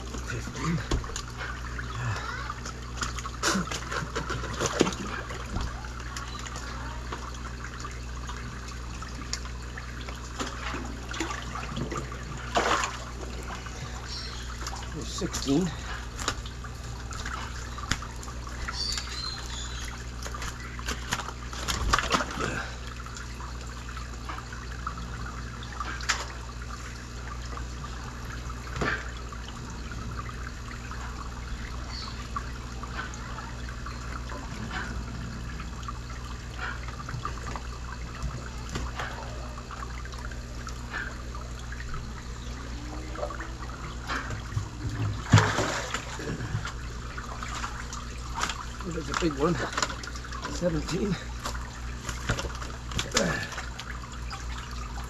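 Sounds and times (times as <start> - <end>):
water splashes: 0.0 - 55.0
water trickling: 0.0 - 55.0.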